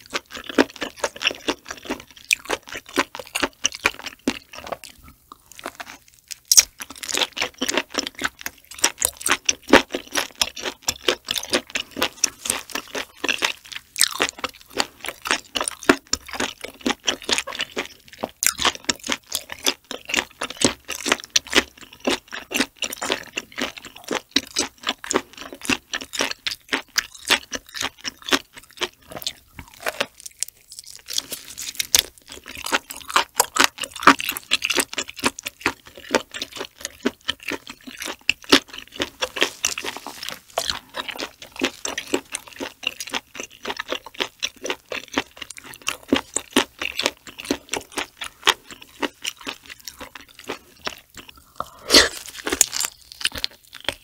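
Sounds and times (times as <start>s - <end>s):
chewing mouth clicks: 0.0s - 54.0s.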